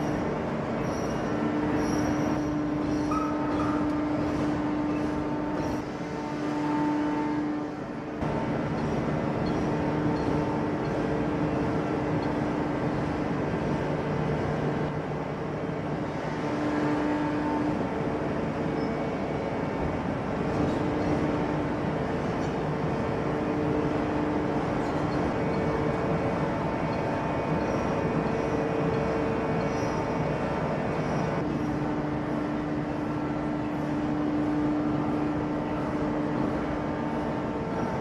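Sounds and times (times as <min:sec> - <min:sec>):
hydraulic press machinery noise: 0:00.0 - 0:38.0
machinery hum: 0:00.0 - 0:38.0.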